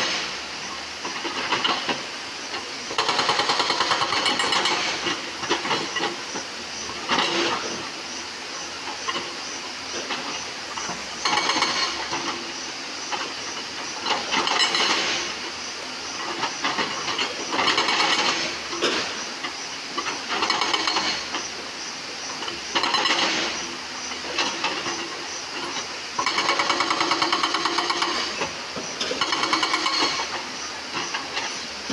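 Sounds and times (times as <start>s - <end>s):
machine engine: 0.0s - 7.9s, 8.6s - 31.9s
hydraulics hissing: 0.0s - 31.9s
hydraulic breaker hammering stones: 1.0s - 6.2s, 9.9s - 19.3s, 20.0s - 21.5s, 22.3s - 31.9s.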